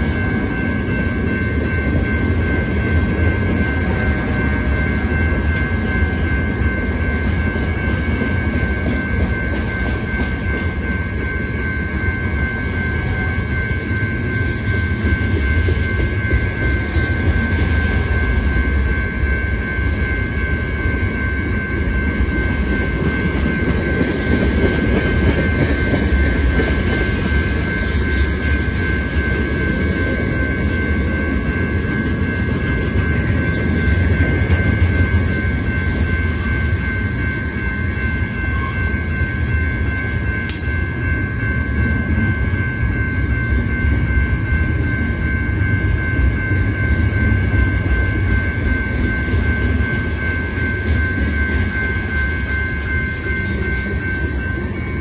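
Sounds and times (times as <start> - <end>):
constant high whine: 0.0 - 55.0
freight train wheels rumbling: 0.0 - 55.0.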